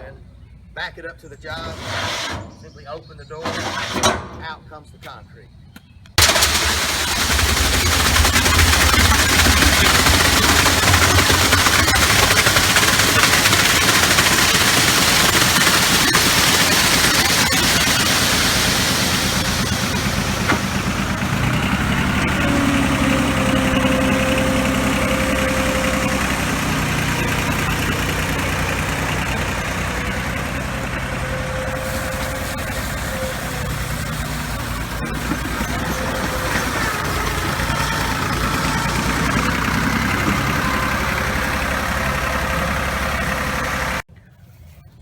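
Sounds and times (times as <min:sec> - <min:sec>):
engine humming steadily: 0:06.2 - 0:44.1.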